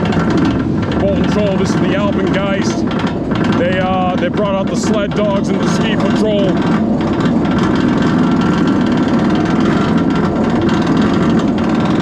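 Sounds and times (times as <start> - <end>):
roller coaster chain lift clatter: 0.0 - 12.0.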